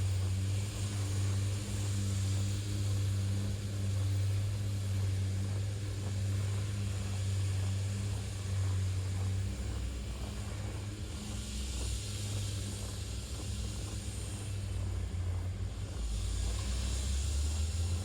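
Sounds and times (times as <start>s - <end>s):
street noise hiss: 0.0s - 18.0s.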